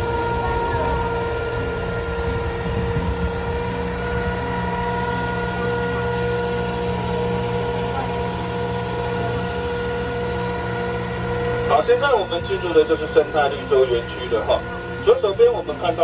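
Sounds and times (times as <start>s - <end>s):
boat motor humming: 0.0s - 16.0s
steady motor whine: 0.0s - 16.0s.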